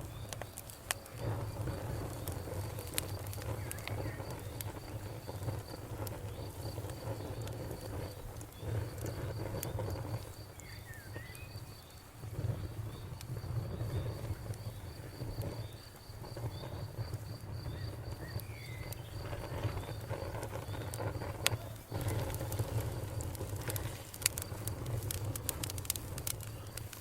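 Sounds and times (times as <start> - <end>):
campfire crackling: 0.0 - 27.0
crickets chirping: 0.0 - 27.0
fire sharp pop: 0.0 - 27.0.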